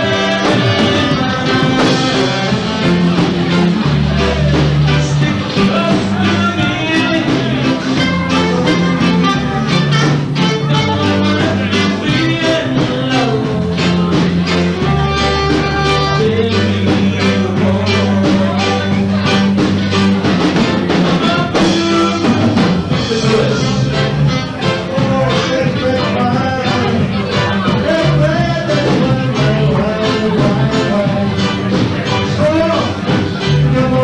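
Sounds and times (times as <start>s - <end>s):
bass guitar: 0.0s - 34.0s
drum kit beat: 0.0s - 34.0s
electric guitar: 0.0s - 34.0s.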